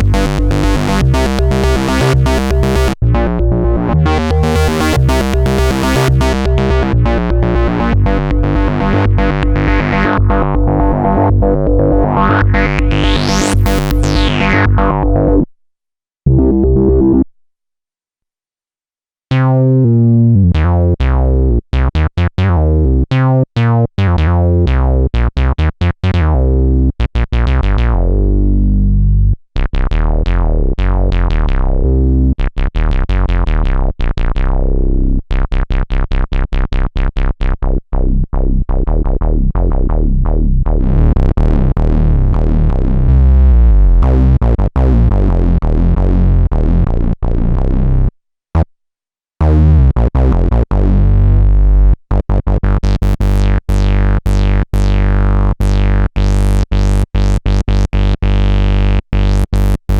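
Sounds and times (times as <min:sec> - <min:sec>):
synthesizer bass line: 0:00.0 - 0:15.5, 0:16.3 - 0:17.3, 0:19.3 - 0:35.6, 0:37.4 - 0:48.7, 0:49.4 - 0:59.9.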